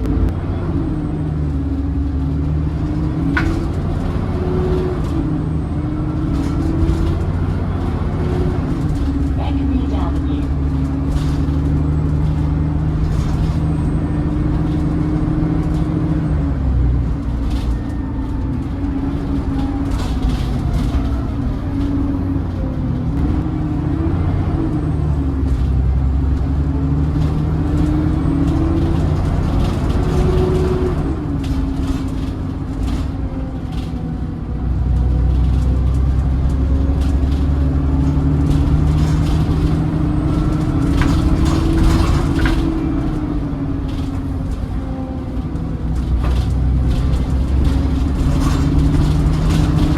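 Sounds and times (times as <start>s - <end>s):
bus engine drone and whine: 0.0s - 49.9s
bodywork rattles: 2.5s - 23.4s, 25.3s - 49.9s.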